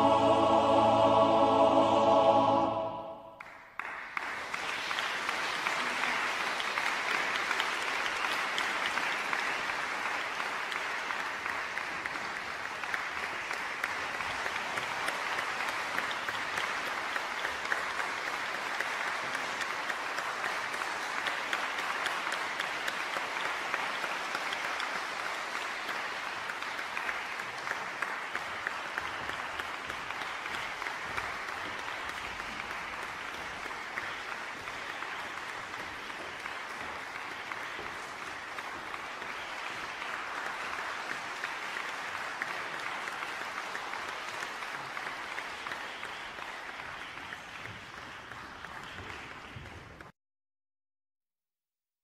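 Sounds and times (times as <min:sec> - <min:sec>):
audience applauding: 0:00.0 - 0:50.1.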